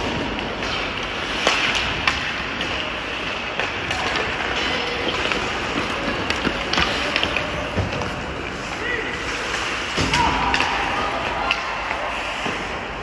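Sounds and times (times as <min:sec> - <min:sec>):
sticks clacking on puck: 0:00.0 - 0:12.8
skates scraping ice: 0:00.0 - 0:13.0.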